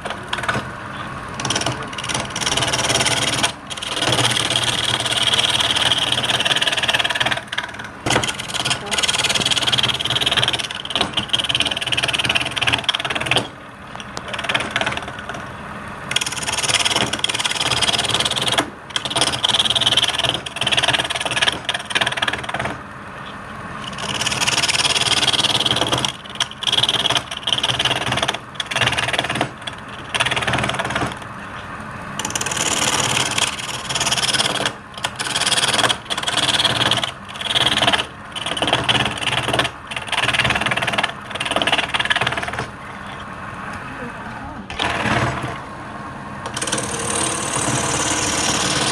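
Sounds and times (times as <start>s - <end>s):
lathe motor hum: 0.0s - 48.9s
turning tool cutting wood: 1.3s - 15.5s, 16.1s - 22.8s, 23.8s - 31.3s, 32.2s - 42.8s, 44.7s - 45.7s, 46.4s - 48.9s.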